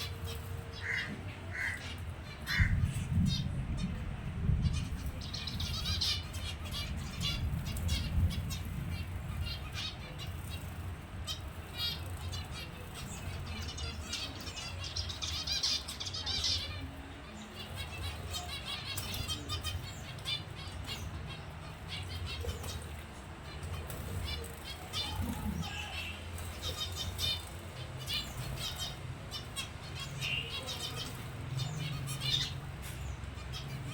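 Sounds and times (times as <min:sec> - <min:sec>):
finches chirping: 0:04.8 - 0:33.9.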